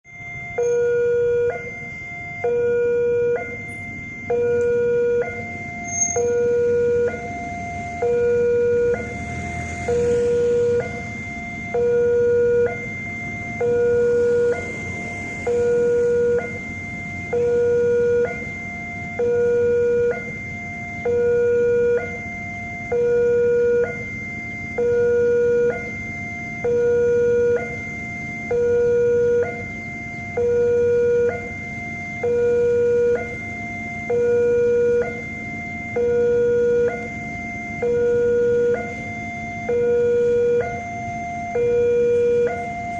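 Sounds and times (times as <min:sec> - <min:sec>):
level crossing warning alarm: 0:00.1 - 0:42.9.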